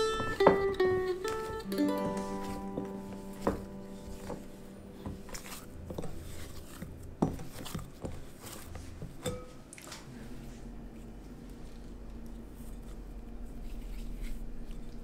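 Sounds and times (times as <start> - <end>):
hands kneading dough: 0.0 - 15.0.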